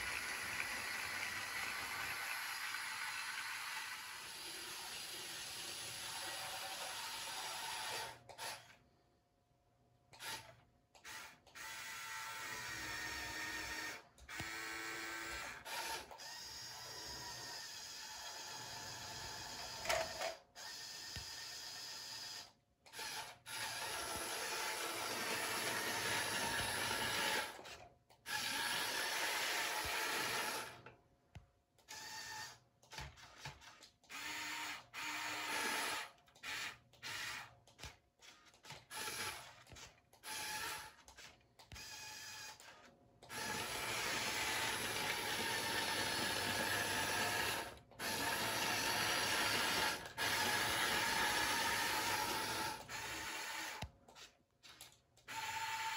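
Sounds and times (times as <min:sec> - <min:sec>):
small electric motors whirring: 0:00.0 - 0:08.7, 0:10.2 - 0:30.8, 0:31.9 - 0:55.9.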